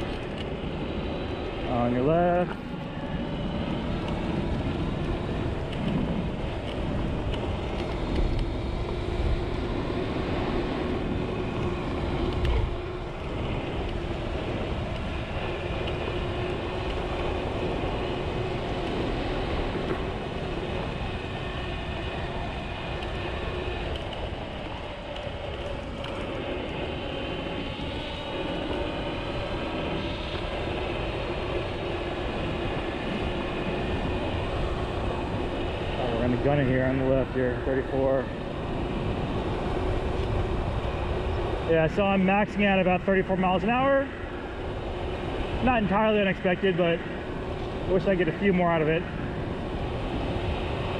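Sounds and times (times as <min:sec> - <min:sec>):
electric scooter motor whine: 0:00.0 - 0:50.9
wind rushing across microphone: 0:00.0 - 0:50.9.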